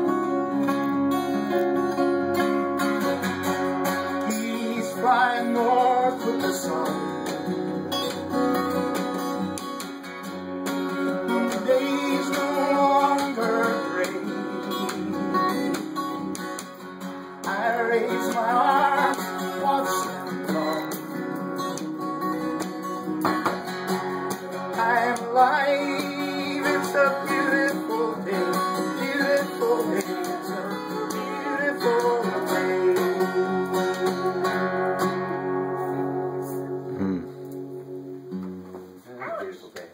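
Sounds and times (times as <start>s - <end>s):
acoustic guitar folk instrumental: 0.0s - 39.7s.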